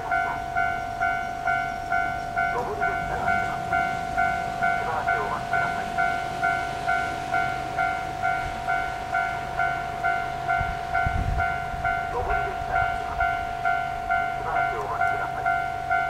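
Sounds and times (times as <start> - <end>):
level crossing bell ringing: 0.0 - 16.0
steady warning tone: 0.0 - 16.0.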